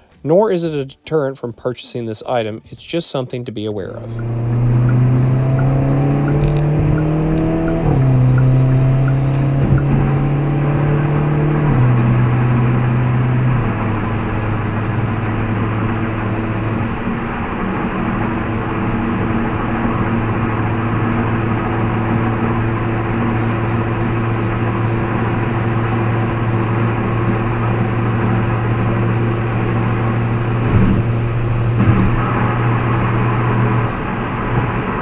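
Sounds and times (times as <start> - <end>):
road noise: 2.1 - 35.0
car engine accelerating: 3.7 - 35.0.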